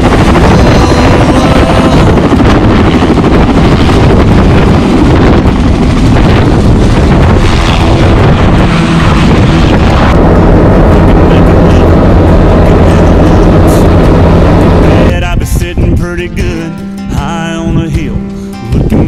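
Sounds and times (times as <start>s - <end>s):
helicopter rotor and engine: 0.0s - 15.9s
wind buffeting microphone: 0.0s - 16.7s, 17.6s - 19.0s.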